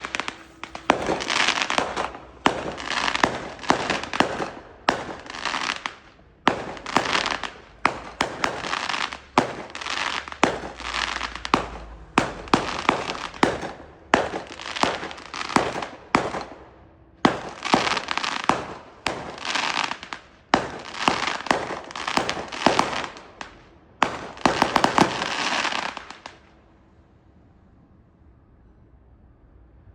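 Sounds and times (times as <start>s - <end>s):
fireworks bursts with crackle: 0.0s - 26.6s.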